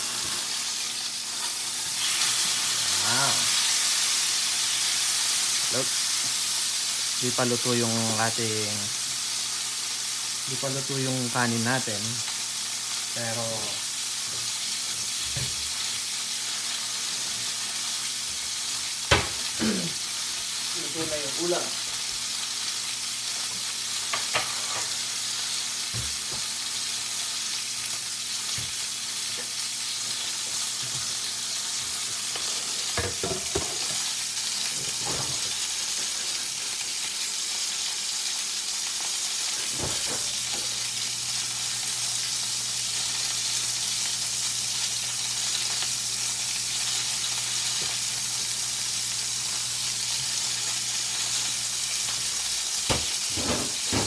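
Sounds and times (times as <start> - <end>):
steak sizzling in a frying pan: 0.0 - 54.0.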